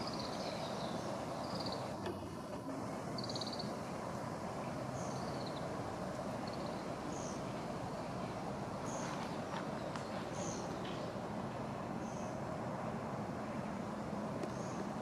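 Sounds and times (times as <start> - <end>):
small birds chirping: 0.0 - 2.0, 3.0 - 11.3, 11.9 - 12.4, 13.4 - 15.0.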